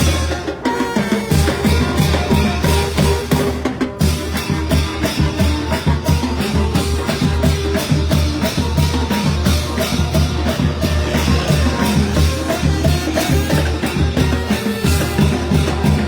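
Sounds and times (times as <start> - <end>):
brass band playing a march: 0.0 - 16.0
quick drum beat: 0.0 - 16.0.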